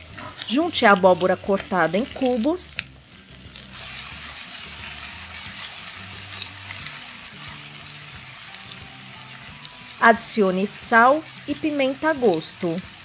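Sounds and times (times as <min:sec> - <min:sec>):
onion and garlic frying: 0:00.0 - 0:13.0.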